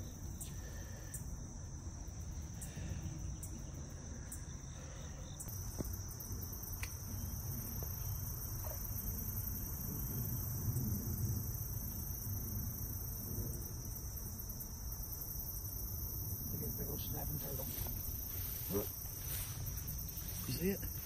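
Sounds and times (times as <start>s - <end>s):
higher insect trill: 0.0s - 21.0s
insects trilling: 0.0s - 21.0s.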